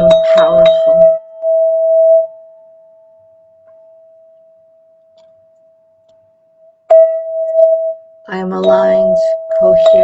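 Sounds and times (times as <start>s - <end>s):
sustained ringing tone: 0.0s - 10.0s.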